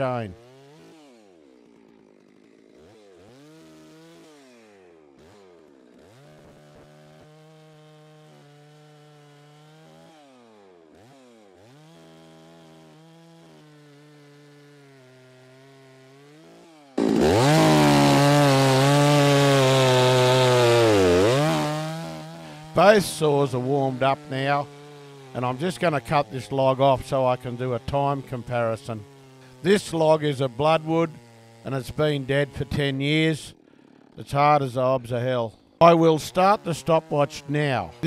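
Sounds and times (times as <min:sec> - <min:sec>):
chainsaw at full throttle: 0:00.0 - 0:34.9, 0:35.6 - 0:38.0
chainsaw idling and revving: 0:00.0 - 0:38.0.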